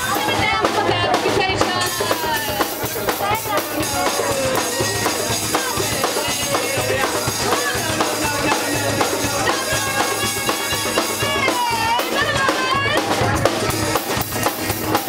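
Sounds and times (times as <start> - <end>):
band playing punk rock: 0.0 - 15.0
drums: 0.0 - 15.0.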